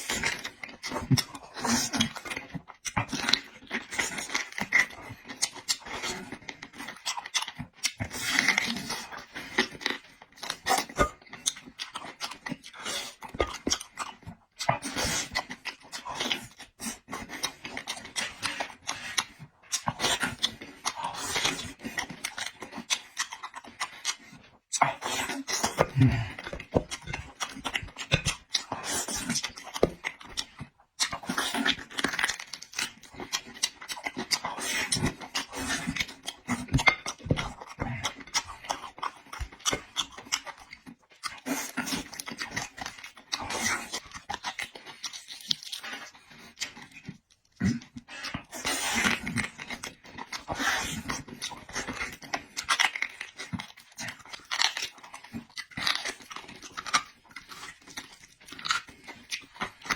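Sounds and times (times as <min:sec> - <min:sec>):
wet chewing and lip smacks: 0:00.0 - 0:59.9.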